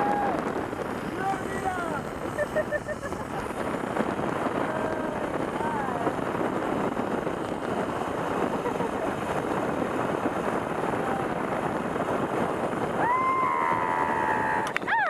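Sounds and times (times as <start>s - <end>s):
high whine: 0.0s - 15.0s
wind on microphone: 0.0s - 15.0s
zip-line trolley on cable: 0.0s - 15.0s.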